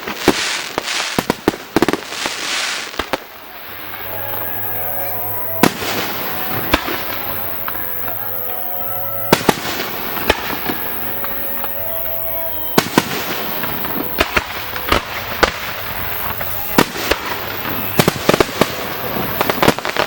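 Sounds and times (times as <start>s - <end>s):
fireworks bangs: 0.0s - 20.0s
fireworks crackling and fizzing: 0.0s - 20.0s
background music: 3.8s - 20.0s.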